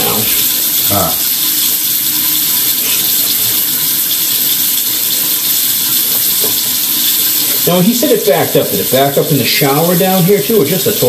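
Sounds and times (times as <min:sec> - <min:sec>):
water rushing in drain: 0:00.0 - 0:11.0.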